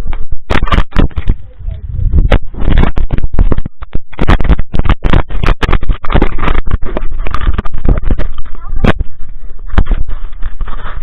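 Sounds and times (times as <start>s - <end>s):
camera knocking and rumbling: 0.0s - 11.0s.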